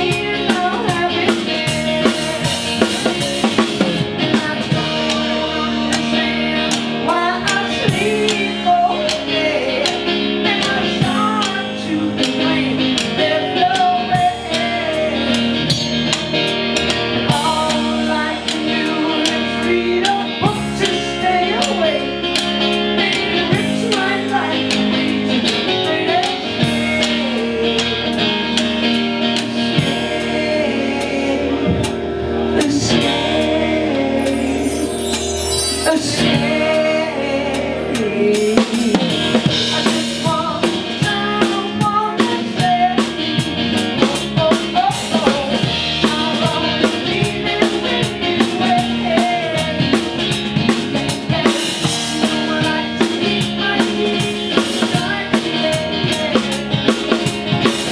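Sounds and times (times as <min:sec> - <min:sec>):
drum kit beat: 0:00.0 - 0:30.3, 0:37.9 - 0:57.9
live band playing: 0:00.0 - 0:57.9.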